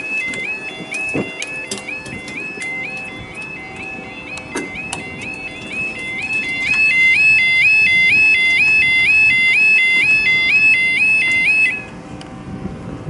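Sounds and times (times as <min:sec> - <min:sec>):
level crossing two-tone alarm: 0:00.0 - 0:11.9.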